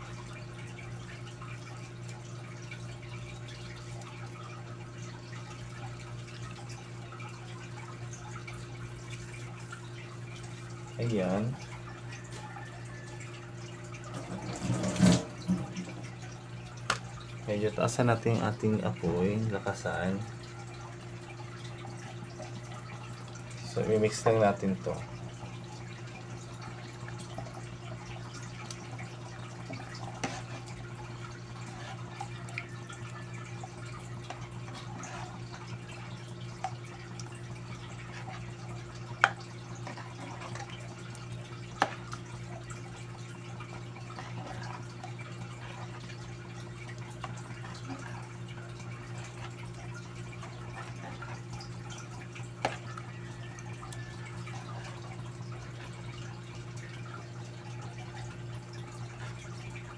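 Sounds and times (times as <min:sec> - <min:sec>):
liquid sloshing and dripping: 0:00.0 - 0:59.9.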